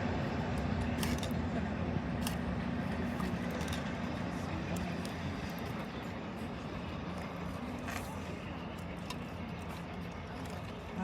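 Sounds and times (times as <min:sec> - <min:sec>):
diesel locomotive engine idling: 0:00.0 - 0:11.0.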